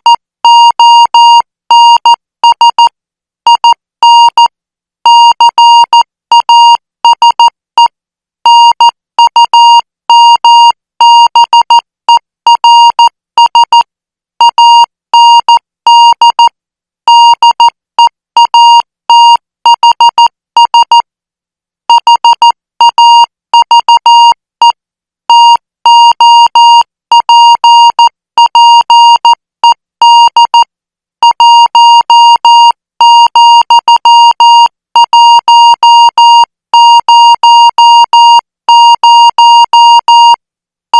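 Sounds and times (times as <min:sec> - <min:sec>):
morse code tone: 0:00.0 - 0:02.9, 0:03.5 - 0:07.9, 0:08.5 - 0:13.8, 0:14.4 - 0:16.5, 0:17.1 - 0:17.7, 0:18.4 - 0:21.0, 0:21.9 - 0:40.4.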